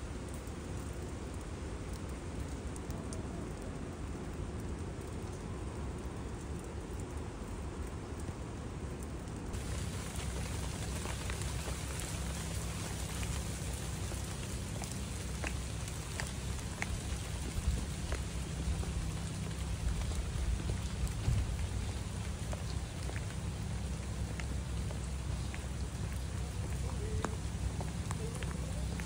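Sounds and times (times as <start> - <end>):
heavy rain on stone and foliage: 0.0 - 29.0
raindrops ticking: 0.0 - 29.0.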